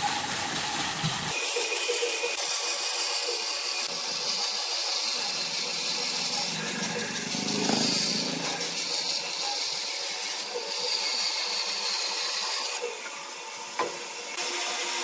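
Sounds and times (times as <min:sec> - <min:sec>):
power tool hissing: 0:00.0 - 0:15.0.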